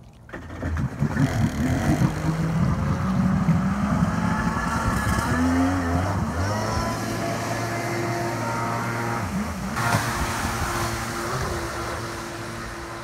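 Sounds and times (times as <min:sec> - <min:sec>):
jet ski engine under throttle: 0:00.3 - 0:13.0.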